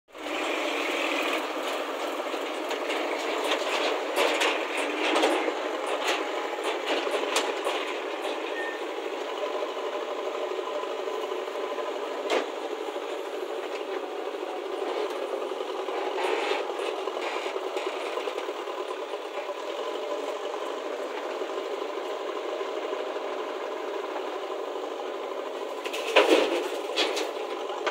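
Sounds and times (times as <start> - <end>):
diesel engines running: 0.1 - 27.9
clanks and rattles of backhoe: 0.2 - 27.9.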